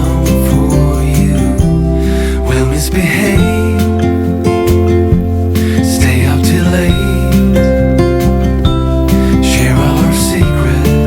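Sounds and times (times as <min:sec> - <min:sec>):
gentle acoustic guitar music: 0:00.0 - 0:11.0.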